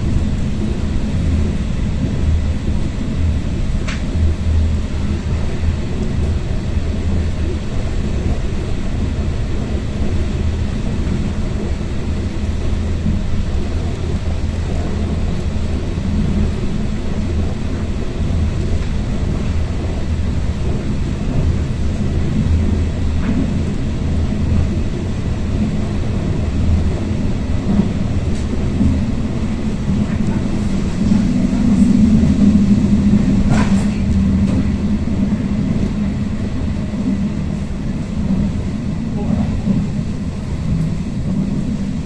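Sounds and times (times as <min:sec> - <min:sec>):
train rumbling inside carriage: 0:00.0 - 0:42.0.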